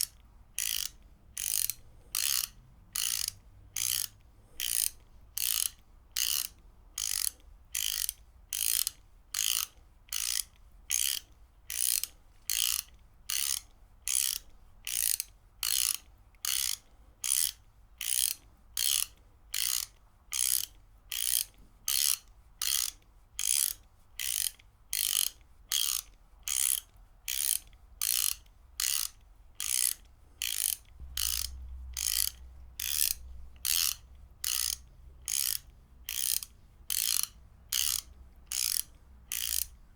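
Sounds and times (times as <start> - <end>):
ratchet wrench clicking: 0.0 - 39.8.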